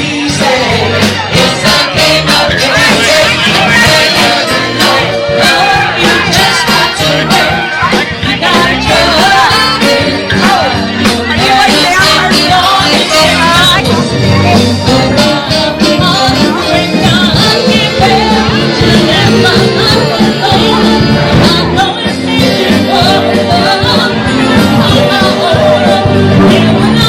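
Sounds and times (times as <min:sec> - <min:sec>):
lead singer singing: 0:00.0 - 0:27.0
live band playing: 0:00.0 - 0:27.0.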